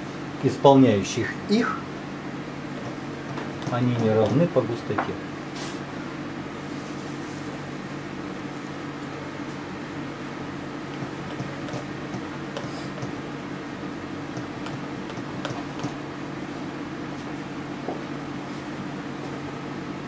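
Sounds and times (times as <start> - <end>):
appliance humming: 0.0 - 20.0.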